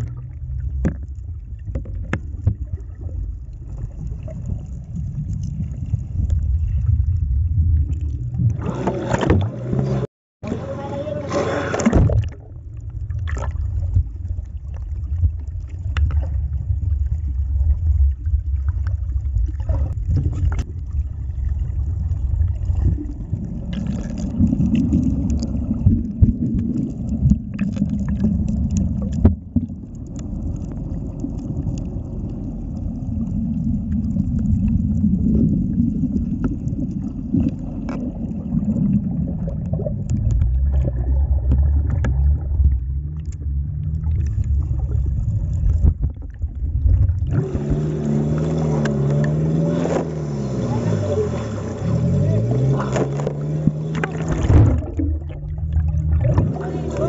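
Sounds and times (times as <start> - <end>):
underwater rumble and sloshing: 0.0 - 57.0.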